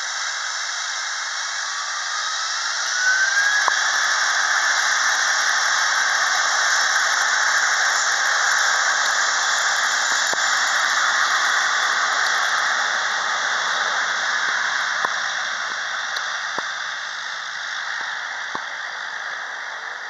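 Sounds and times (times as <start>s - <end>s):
jet engines roaring and whining: 0.0s - 18.6s.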